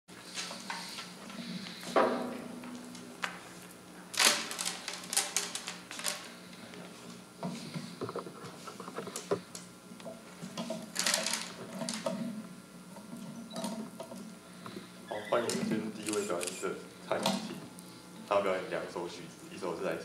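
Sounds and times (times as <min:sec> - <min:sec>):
steady low hum: 0:00.1 - 0:20.0.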